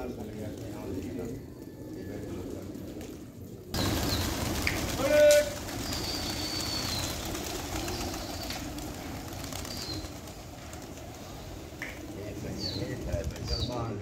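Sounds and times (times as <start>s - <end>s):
pigeon wingbeats: 0.1s - 14.0s.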